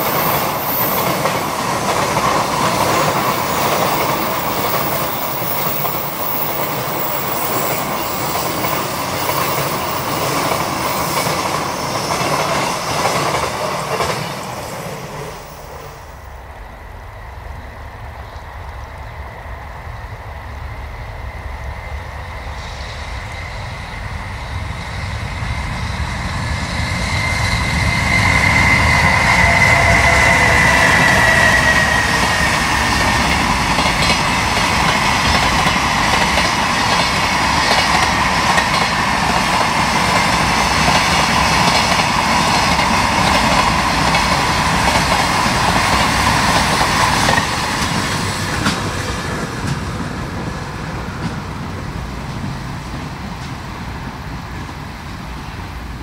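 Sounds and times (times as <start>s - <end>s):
electric locomotive whine: 0.0s - 56.0s.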